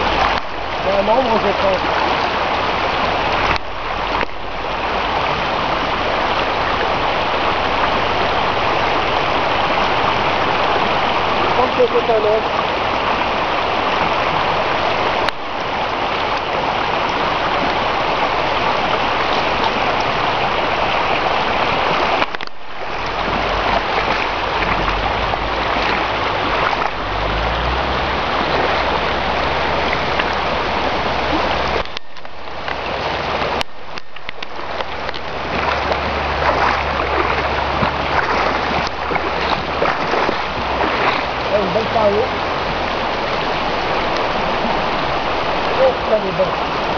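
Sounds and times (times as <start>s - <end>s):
river water rushing over stones: 0.0s - 46.9s.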